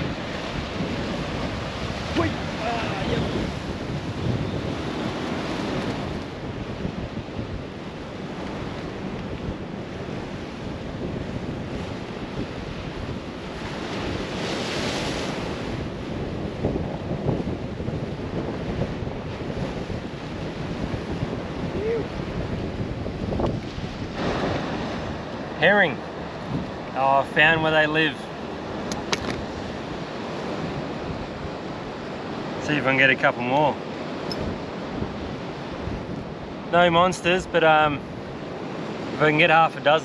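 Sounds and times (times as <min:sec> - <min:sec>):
surf washing against rocks: 0:00.0 - 0:40.0
wind buffeting microphone: 0:00.0 - 0:40.0.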